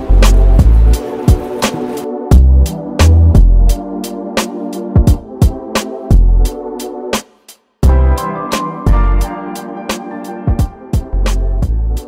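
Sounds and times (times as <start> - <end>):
hip-hop instrumental music: 0.0 - 12.0.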